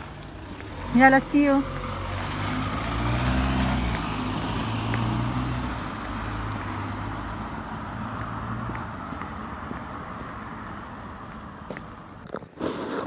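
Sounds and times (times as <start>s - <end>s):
car driving past: 0.0s - 11.7s.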